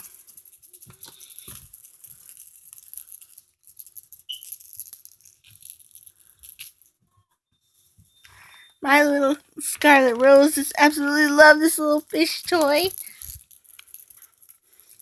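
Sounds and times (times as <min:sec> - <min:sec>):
small bell jingling: 0:00.0 - 0:06.9, 0:07.8 - 0:15.0.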